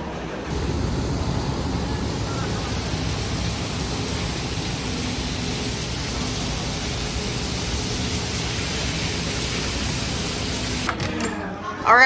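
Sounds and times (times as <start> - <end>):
steady rushing noise: 0.5 - 10.9.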